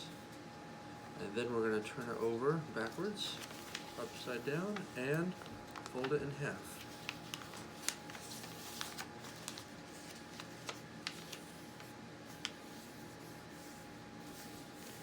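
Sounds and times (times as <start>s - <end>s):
paper crackling and folding: 2.0s - 15.0s.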